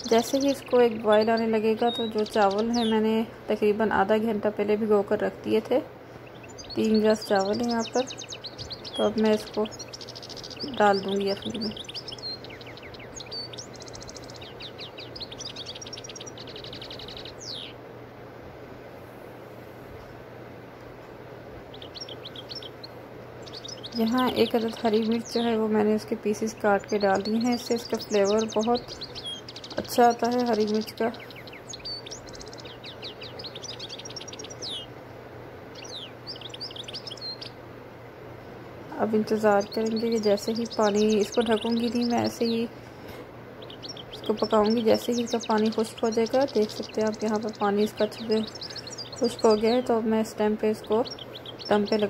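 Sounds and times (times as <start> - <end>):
small birds chirping and trilling: 0.0 - 18.2, 18.8 - 52.0
steady low hum and hiss: 0.0 - 52.0.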